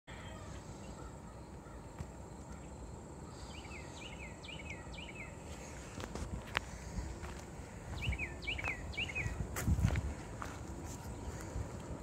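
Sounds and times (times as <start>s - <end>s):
songbird chirping: 0.1s - 12.0s.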